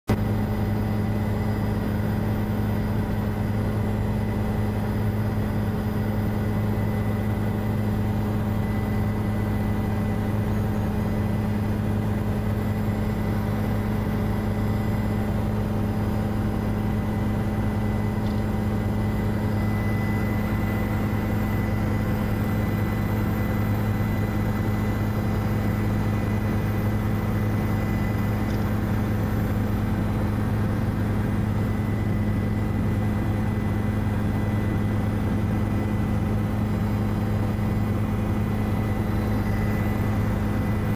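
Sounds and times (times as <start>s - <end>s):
helicopter engine and rotor drone: 0.1s - 40.9s.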